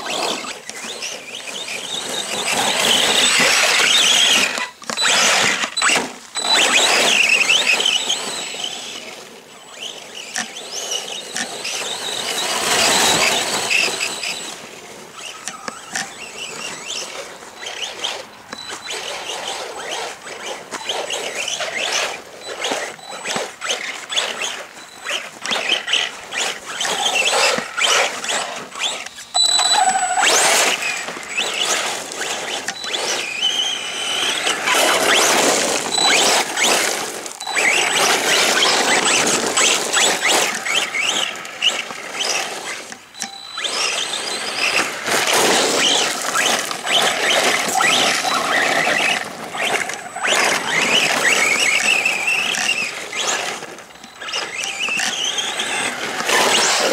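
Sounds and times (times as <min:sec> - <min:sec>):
rc truck motor whining: 0:00.0 - 0:56.9.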